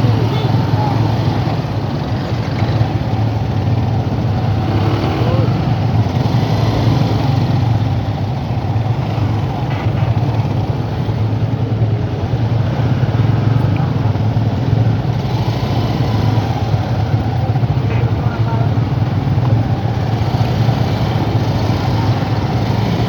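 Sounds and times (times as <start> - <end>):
low rumble of traffic: 0.0 - 23.0.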